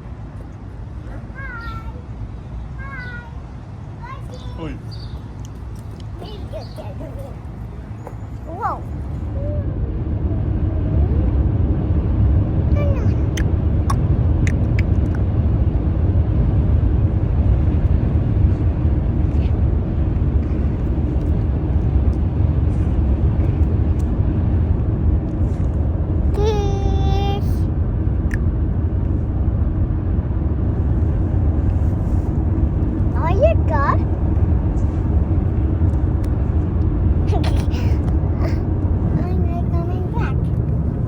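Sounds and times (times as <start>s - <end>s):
low outdoor rumble: 0.0s - 41.0s.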